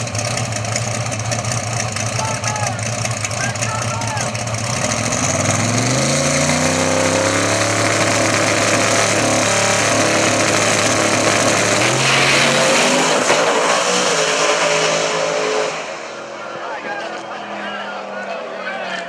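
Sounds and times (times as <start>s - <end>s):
race car engine at high revs: 0.0s - 19.0s
rushing exhaust noise: 0.0s - 19.0s.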